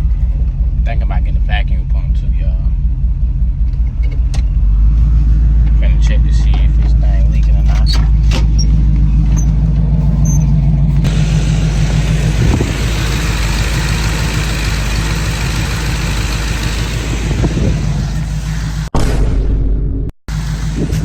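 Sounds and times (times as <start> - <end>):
car engine idling: 0.0 - 18.9, 20.3 - 21.0.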